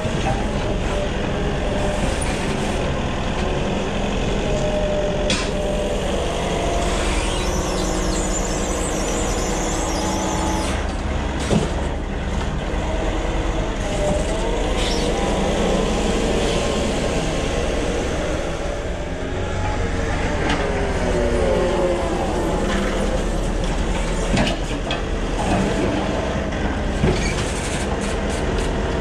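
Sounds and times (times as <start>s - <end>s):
forklift drive whine: 0.0s - 29.0s.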